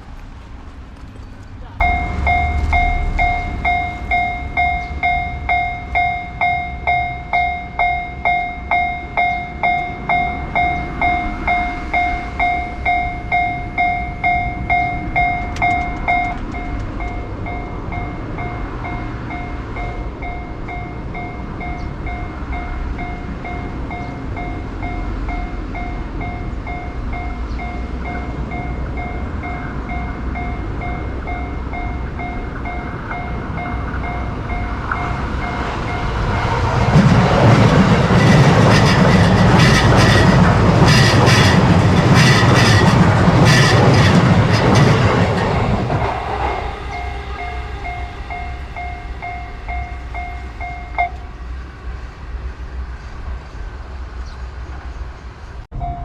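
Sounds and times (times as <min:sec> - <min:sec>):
train rumbling past: 0:00.0 - 0:56.0
railroad crossing alarm ringing: 0:01.8 - 0:53.0, 0:55.7 - 0:56.0.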